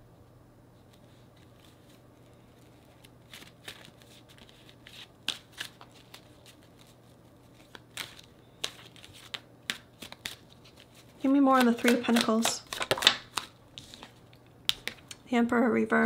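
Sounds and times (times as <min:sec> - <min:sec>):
cards being shuffled: 0:00.8 - 0:15.2.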